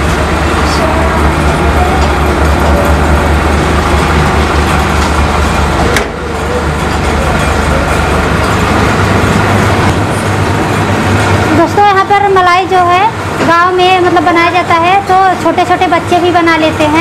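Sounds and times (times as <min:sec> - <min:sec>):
freezing machine humming: 0:00.0 - 0:17.0.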